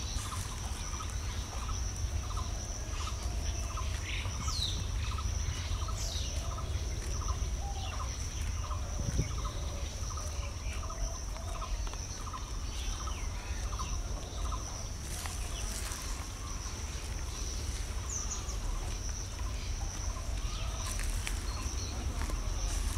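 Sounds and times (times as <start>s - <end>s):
birds chirping and calling: 0.0s - 22.9s.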